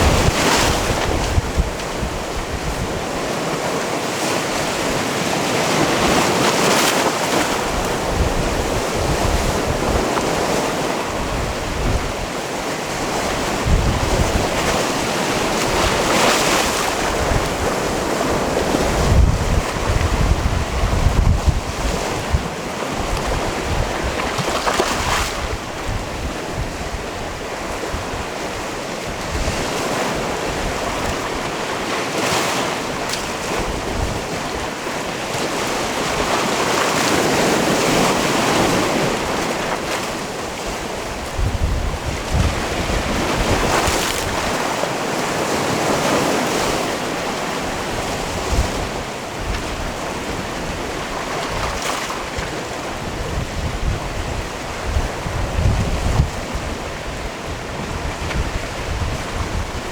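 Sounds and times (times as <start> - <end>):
sea waves on rocky shore: 0.0 - 59.9
wind rumble on microphone: 0.0 - 59.9.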